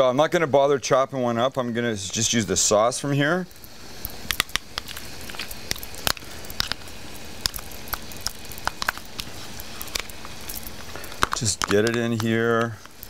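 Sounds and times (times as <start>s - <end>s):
onions sizzling in a pan: 1.1s - 13.0s.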